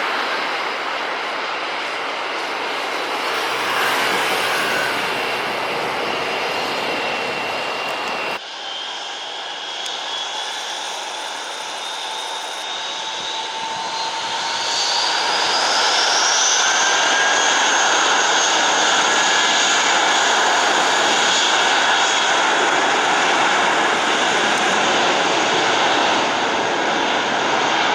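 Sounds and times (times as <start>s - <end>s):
jet engines spooling up: 0.0s - 27.9s.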